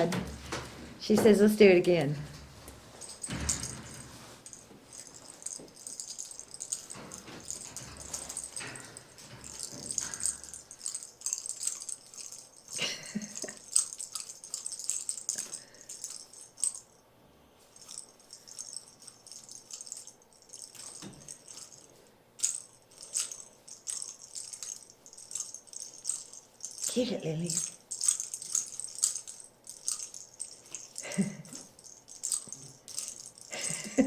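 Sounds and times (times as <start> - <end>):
bell in toy ball jingling: 2.9 - 17.0, 17.7 - 34.0.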